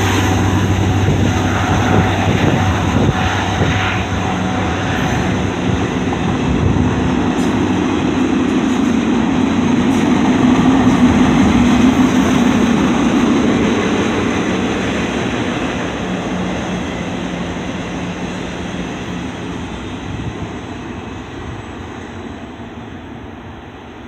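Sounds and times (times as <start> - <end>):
train wheels on track: 0.0 - 24.0.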